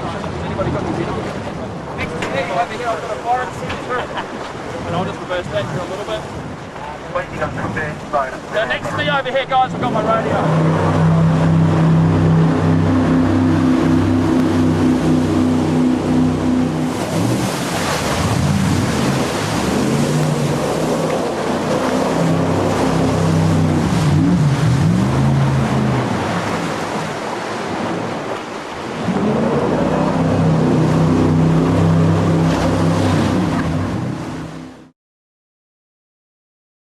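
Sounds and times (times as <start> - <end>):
jet boat engine running: 0.0 - 34.9
water rushing: 0.0 - 34.9.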